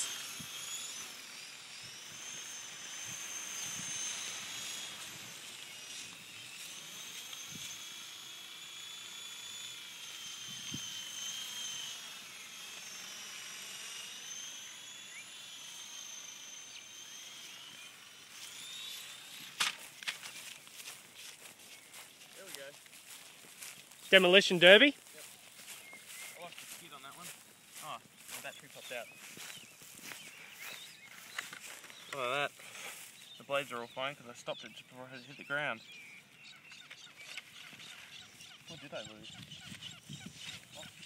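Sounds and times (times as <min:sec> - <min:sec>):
rc helicopter motor whine: 0:00.0 - 0:41.0.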